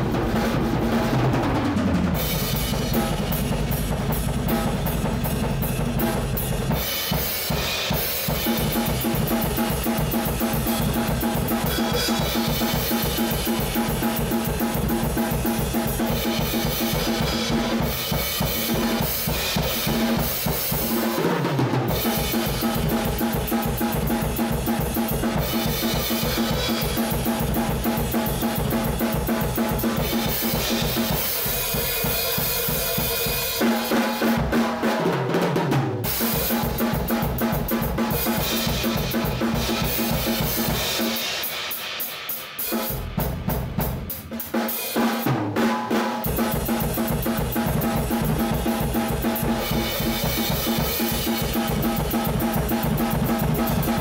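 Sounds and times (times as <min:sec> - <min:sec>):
drum kit playing steady beat: 0:00.0 - 0:54.0.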